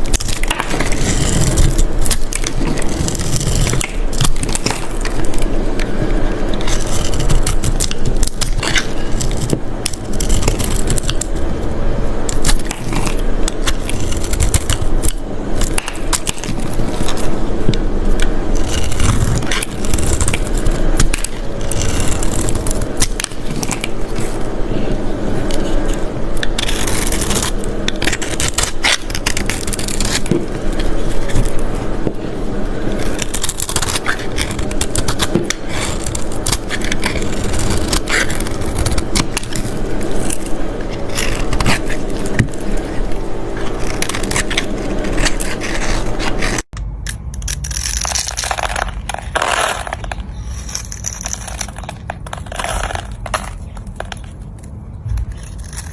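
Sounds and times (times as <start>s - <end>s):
dry soap crunching and crackling: 0.0s - 11.5s, 12.2s - 55.9s.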